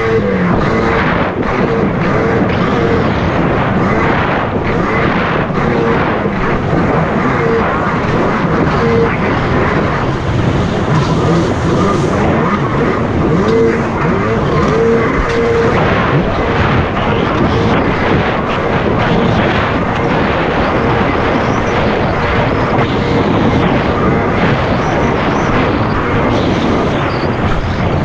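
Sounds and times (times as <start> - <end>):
jet ski engine drone: 0.0 - 28.0
rushing wind and water: 0.0 - 28.0.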